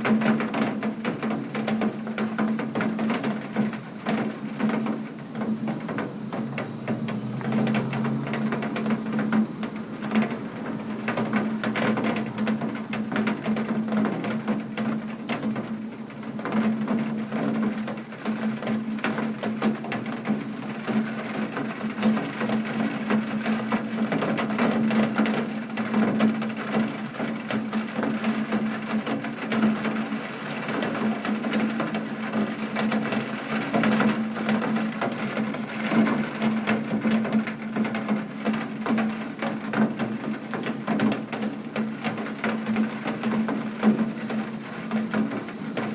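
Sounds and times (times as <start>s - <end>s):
rain drops tapping on hard surface: 0.0s - 45.9s.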